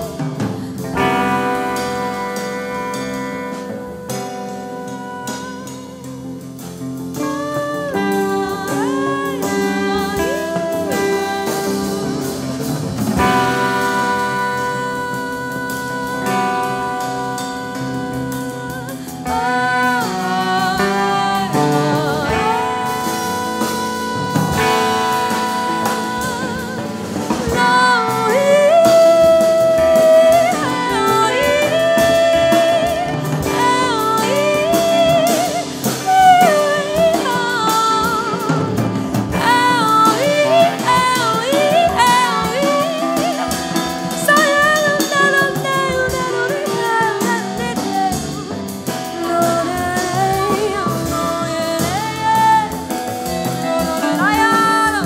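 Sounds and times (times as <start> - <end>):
jazz band music: 0.0 - 55.0
person singing: 0.0 - 55.0.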